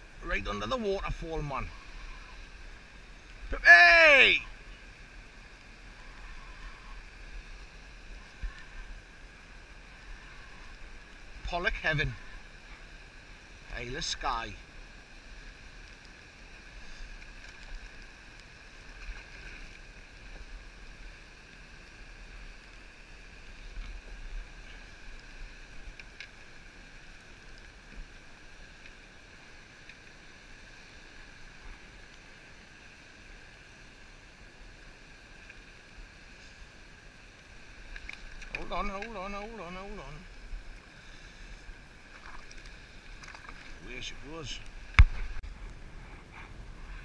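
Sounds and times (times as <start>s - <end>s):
water around kayak: 0.0s - 47.0s.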